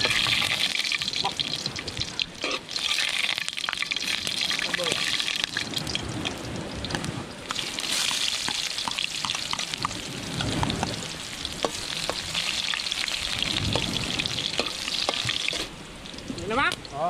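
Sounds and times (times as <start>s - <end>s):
garlic sizzling in oil: 0.0s - 16.9s.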